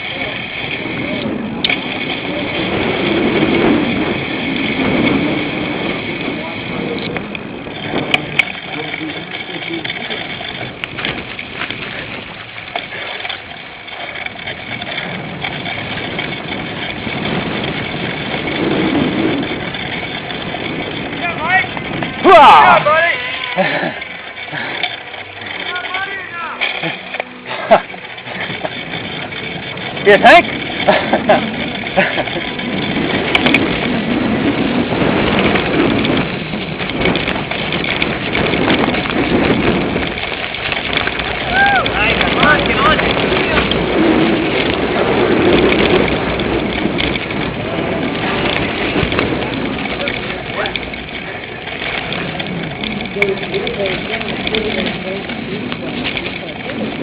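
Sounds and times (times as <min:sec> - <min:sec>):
bike rattling over rough ground: 0:00.0 - 0:57.0
wind noise: 0:00.0 - 0:57.0.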